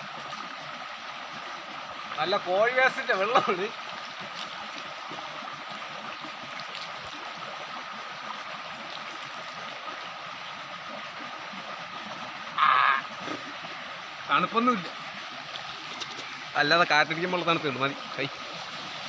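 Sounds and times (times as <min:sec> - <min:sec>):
stream running over stones: 0:00.0 - 0:19.0.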